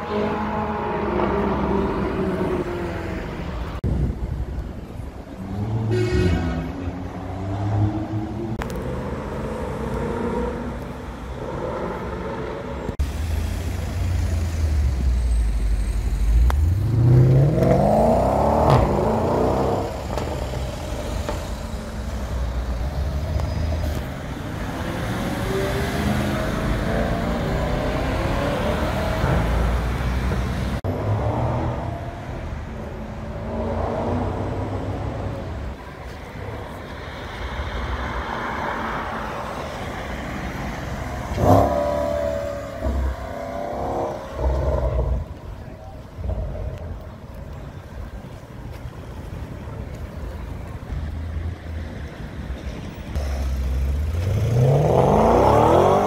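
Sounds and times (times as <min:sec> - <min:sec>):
car engines accelerating hard: 0:07.0 - 0:56.0.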